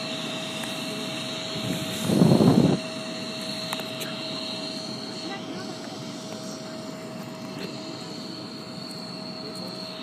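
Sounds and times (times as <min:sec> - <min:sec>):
jet engine whining: 0:00.0 - 0:10.0.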